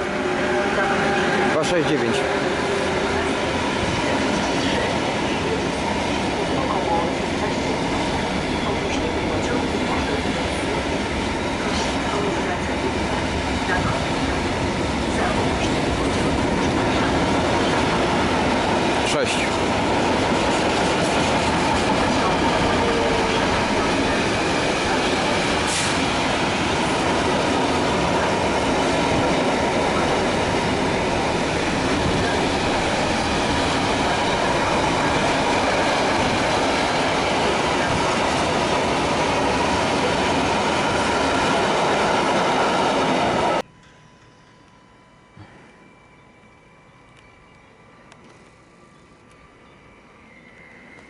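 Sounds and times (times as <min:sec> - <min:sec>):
train wheels rushing on rails: 0:00.0 - 0:43.6.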